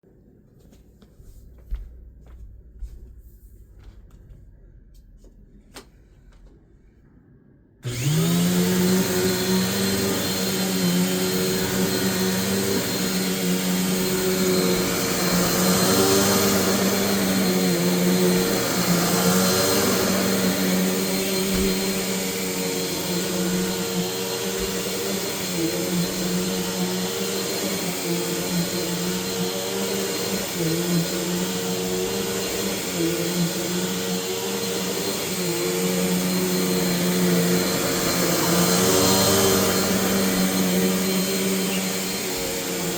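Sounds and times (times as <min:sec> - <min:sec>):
upright vacuum cleaner running: 0:07.8 - 0:42.9.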